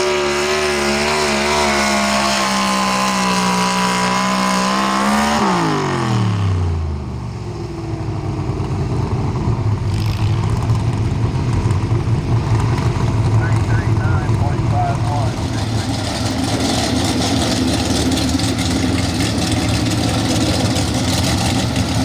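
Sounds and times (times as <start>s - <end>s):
truck engine revving: 0.0s - 6.9s, 9.6s - 22.0s.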